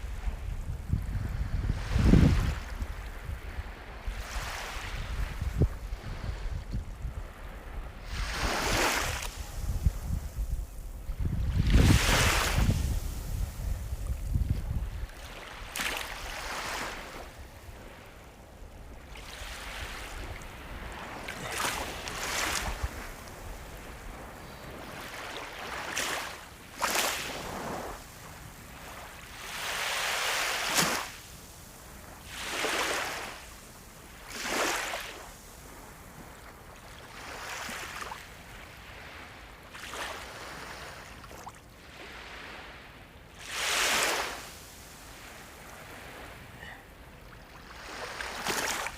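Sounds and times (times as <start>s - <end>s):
sea waves breaking on shore: 0.0s - 48.9s.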